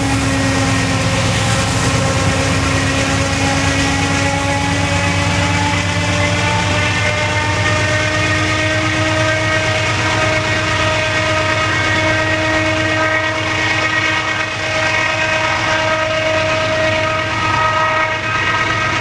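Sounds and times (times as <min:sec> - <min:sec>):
locomotive engine drone: 0:00.0 - 0:19.0
moving train cars: 0:00.0 - 0:19.0
steady locomotive whine: 0:00.0 - 0:19.0.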